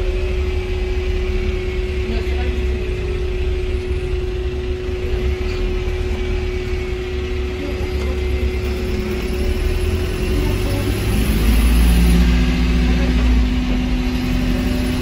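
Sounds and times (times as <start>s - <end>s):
bus drivetrain rumble: 0.0s - 15.0s.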